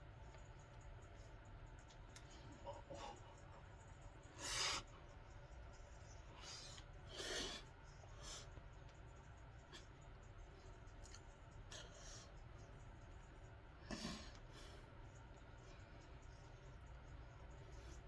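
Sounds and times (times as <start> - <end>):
soft hissing breaths: 0.0 - 18.0.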